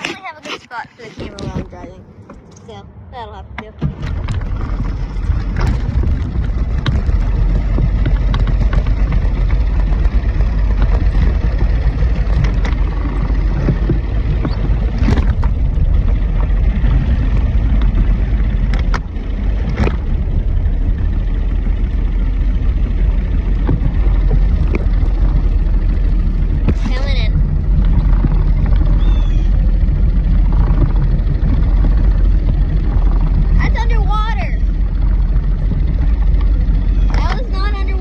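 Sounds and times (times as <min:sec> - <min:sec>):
boat motor rumbling: 0:00.0 - 0:38.0
wind buffeting microphone: 0:03.8 - 0:38.0.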